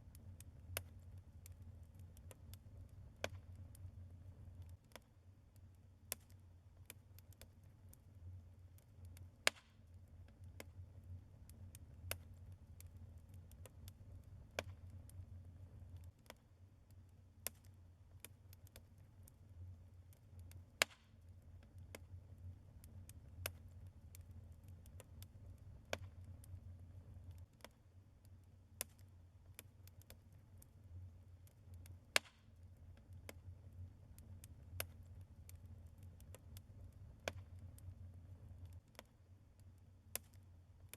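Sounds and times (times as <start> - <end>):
logs crackling and popping: 0.0 - 40.9
low rumble of fire: 0.0 - 40.9.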